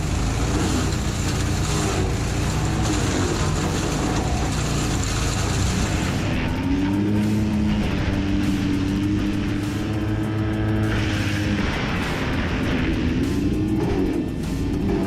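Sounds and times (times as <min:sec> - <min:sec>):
wood chipper running: 0:00.0 - 0:15.0.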